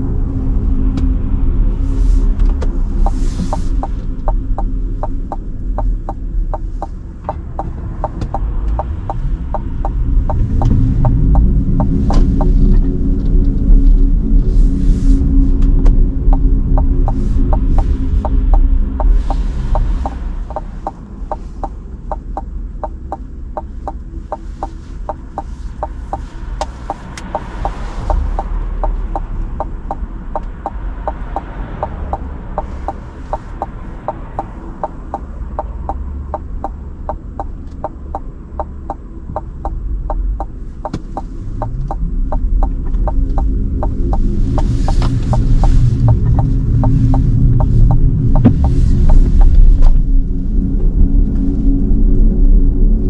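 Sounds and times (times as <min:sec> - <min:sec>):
turn signal ticking: 0:02.6 - 0:12.8, 0:15.8 - 0:50.0.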